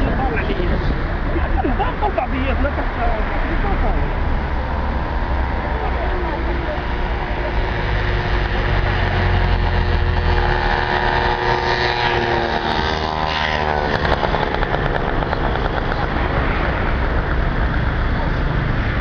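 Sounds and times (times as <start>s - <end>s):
vehicle passing by: 0.0s - 19.0s.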